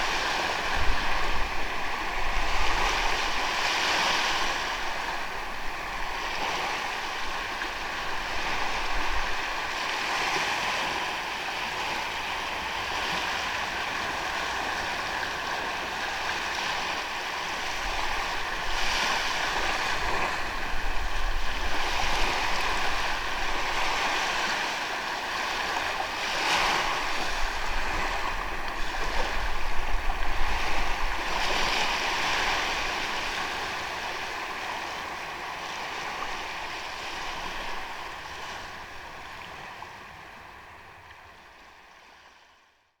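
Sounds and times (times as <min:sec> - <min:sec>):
sea waves washing onto sand: 0:00.0 - 0:40.8.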